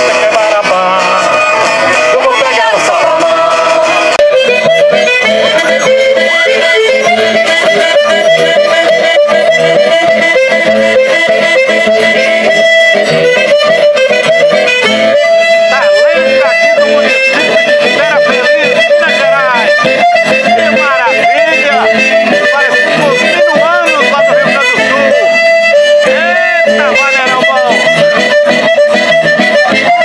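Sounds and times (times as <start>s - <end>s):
button accordion folk tune: 0.0s - 30.0s
plucked-string accompaniment: 0.0s - 30.0s.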